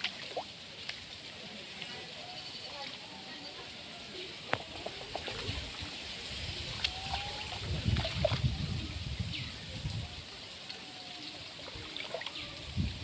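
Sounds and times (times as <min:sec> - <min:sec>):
flood water trickling and sloshing: 0:00.0 - 0:13.0.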